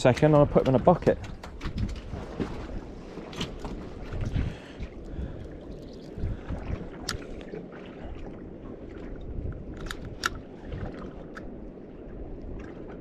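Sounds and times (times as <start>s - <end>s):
sea noise: 0.0s - 13.0s
wind: 0.0s - 13.0s.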